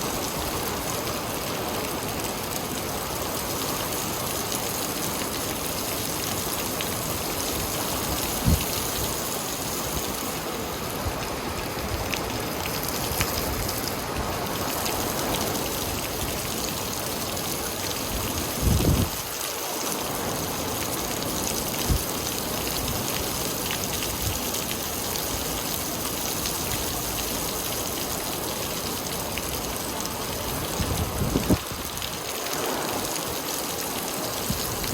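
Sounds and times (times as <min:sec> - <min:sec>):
rain pattering: 0:00.0 - 0:34.9.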